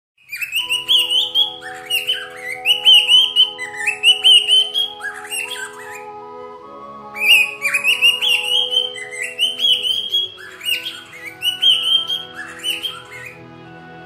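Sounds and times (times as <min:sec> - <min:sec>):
birds chirping: 0:00.2 - 0:14.0
soft sustained music chords: 0:00.3 - 0:14.0.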